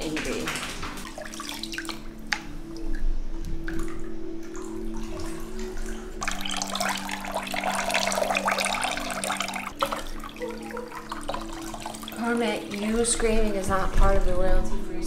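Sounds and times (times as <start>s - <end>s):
water pouring and splashing: 0.0s - 3.0s, 3.6s - 14.2s.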